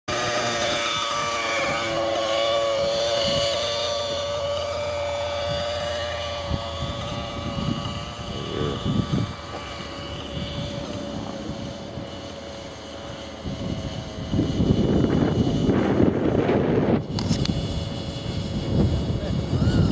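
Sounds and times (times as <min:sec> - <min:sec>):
model helicopter engine idling: 0:00.1 - 0:19.9
wind rumbling on microphone: 0:00.4 - 0:19.9.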